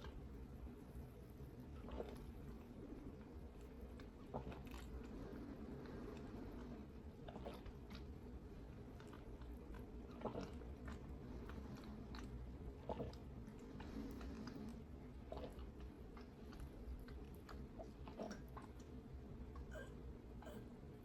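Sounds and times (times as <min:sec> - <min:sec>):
person gulping and swallowing: 0:01.8 - 0:03.3, 0:03.9 - 0:21.0.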